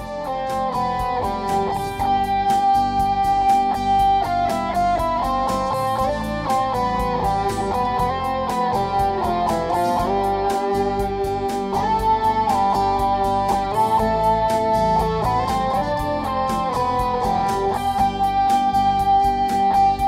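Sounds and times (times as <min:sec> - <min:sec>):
instrumental theme music: 0:00.0 - 0:20.0.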